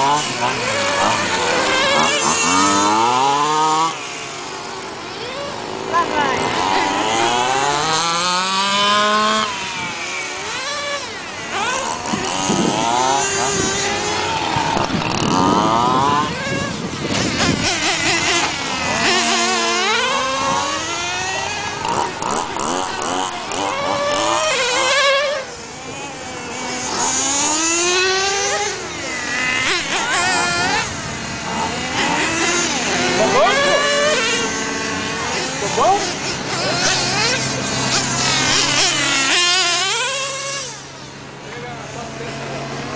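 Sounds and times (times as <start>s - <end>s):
small two-stroke engines revving: 0.0s - 42.9s.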